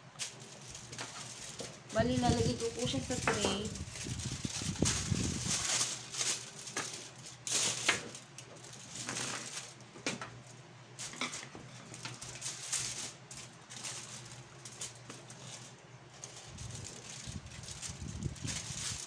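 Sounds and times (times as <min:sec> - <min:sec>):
aluminium foil crinkling: 0:00.0 - 0:19.0
faint steady hum: 0:00.0 - 0:19.0.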